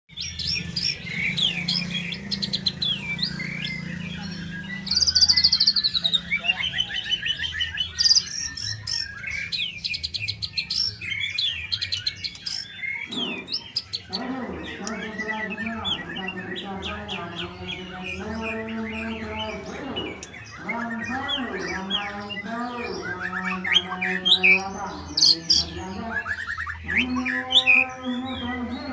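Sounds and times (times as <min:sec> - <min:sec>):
bird singing whistled notes: 0:00.1 - 0:28.9.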